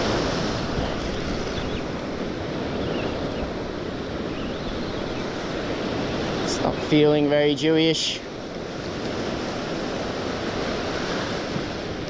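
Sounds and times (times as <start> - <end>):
ocean surf washing on beach: 0.0 - 12.0
wind buffeting microphone: 0.0 - 12.0.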